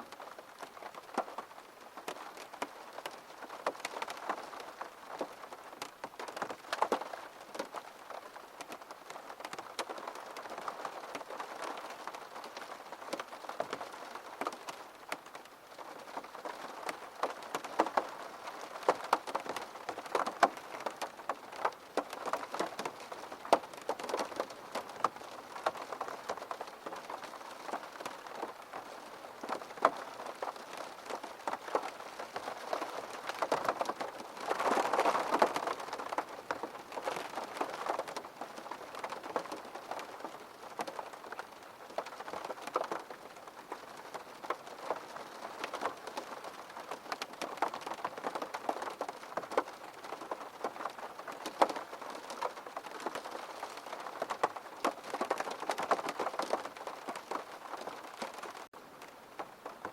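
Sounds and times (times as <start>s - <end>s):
rain on a hard surface: 0.0s - 59.9s
raindrops tapping: 0.1s - 59.9s.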